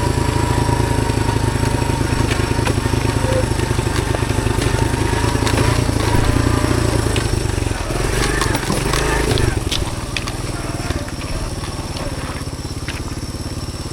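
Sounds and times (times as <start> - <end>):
small motorbike engine running: 0.0 - 13.9.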